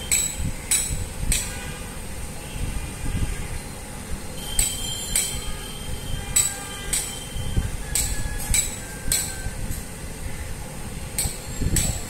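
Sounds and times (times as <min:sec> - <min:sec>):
air conditioner unit rumbling: 0:00.0 - 0:12.0.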